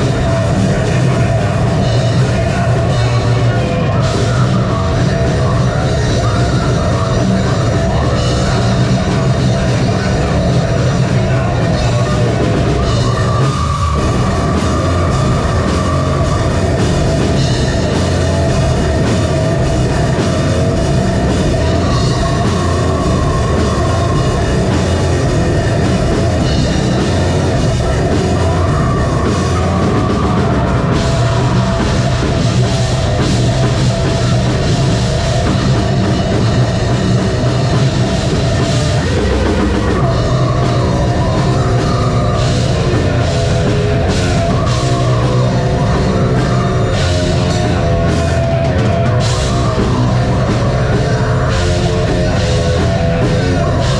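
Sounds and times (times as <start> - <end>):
heavy metal band playing: 0.0 - 53.9.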